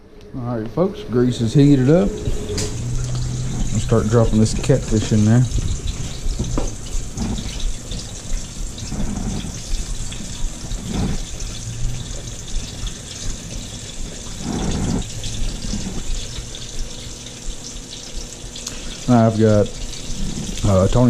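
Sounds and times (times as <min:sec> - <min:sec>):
fish deep-frying in oil: 0:01.7 - 0:21.0.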